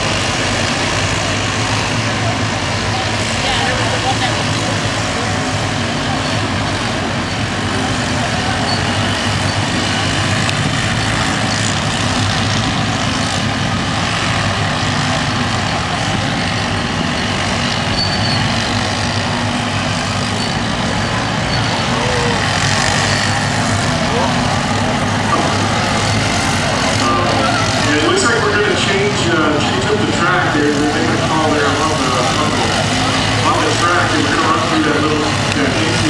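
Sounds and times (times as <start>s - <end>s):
small race-truck engines running: 0.0s - 36.0s.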